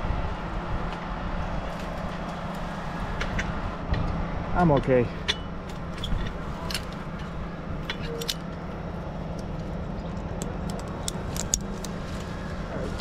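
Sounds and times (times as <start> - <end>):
crane engine humming: 0.0 - 13.0.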